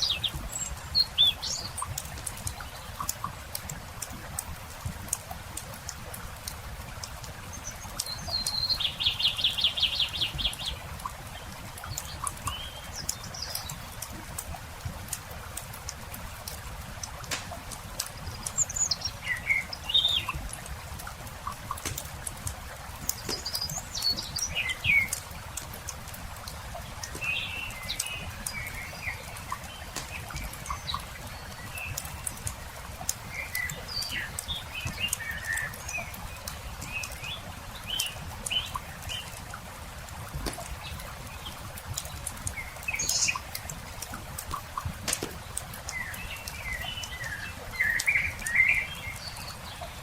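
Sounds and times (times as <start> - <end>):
campfire crackling: 0.0 - 8.1, 9.1 - 49.3
songbirds chirping: 0.0 - 50.0.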